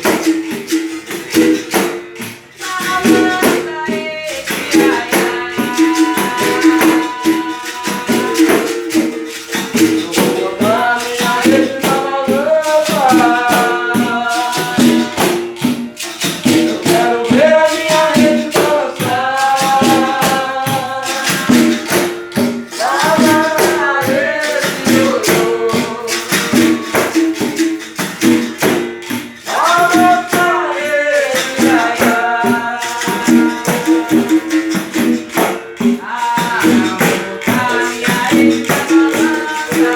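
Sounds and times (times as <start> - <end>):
berimbau: 0.0 - 39.9
rattle and tambourine percussion: 0.0 - 39.9
person singing: 2.5 - 39.9.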